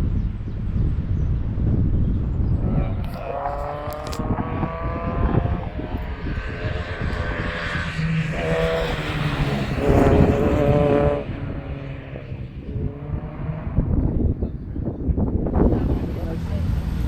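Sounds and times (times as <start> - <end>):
wind and road noise: 0.0 - 17.0
sports car engine under load: 0.1 - 17.0.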